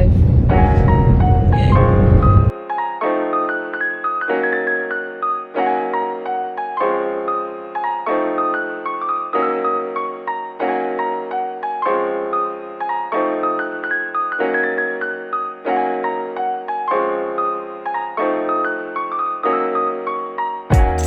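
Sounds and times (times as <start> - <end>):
gentle piano piece: 0.0 - 21.0.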